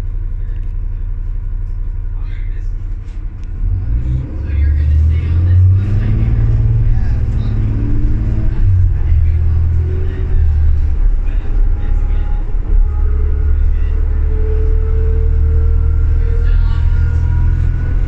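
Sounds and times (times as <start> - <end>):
bus engine rumble: 0.0 - 18.0
rising whine: 3.4 - 18.0.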